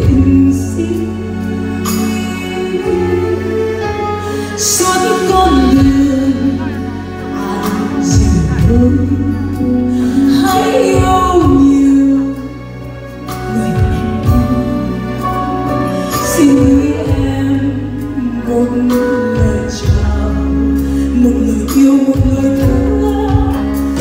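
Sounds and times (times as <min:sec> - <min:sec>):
band with sustained bass notes: 0:00.0 - 0:24.0
woman singing into a microphone: 0:00.0 - 0:24.0.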